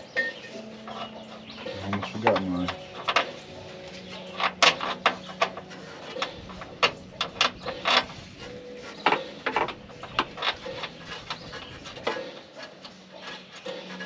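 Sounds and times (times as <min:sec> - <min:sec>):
metal tools and bolts clinking: 0:00.2 - 0:14.0.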